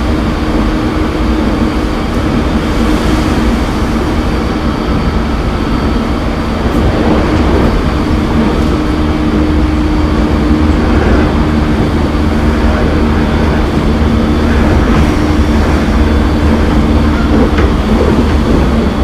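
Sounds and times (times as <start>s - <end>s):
electric train motor hum: 0.0s - 19.0s
wheel-on-rail noise: 0.0s - 19.0s.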